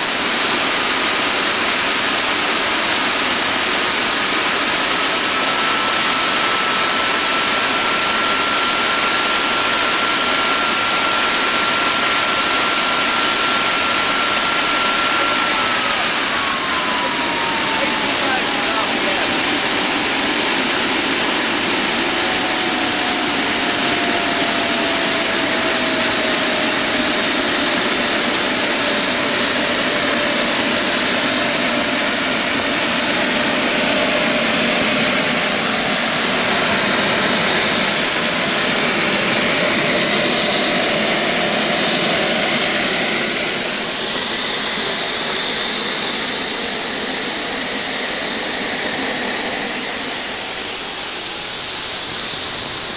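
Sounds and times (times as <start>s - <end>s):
gas turbine jet roar: 0.0s - 52.9s.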